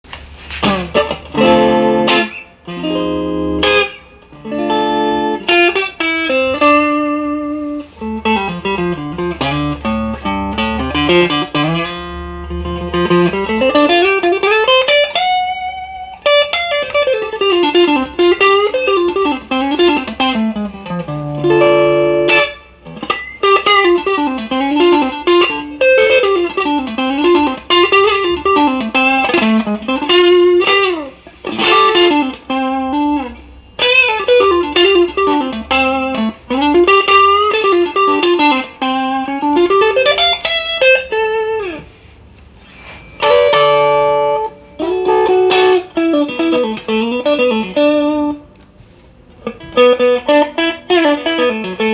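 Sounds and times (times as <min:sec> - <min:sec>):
electric guitar solo: 0:00.6 - 0:51.9.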